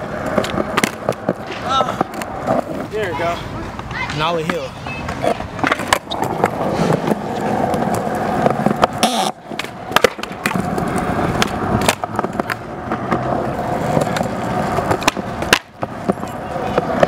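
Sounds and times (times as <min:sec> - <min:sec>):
skateboard clacking: 0:00.0 - 0:17.0
skateboard wheels rolling on concrete: 0:00.0 - 0:17.0.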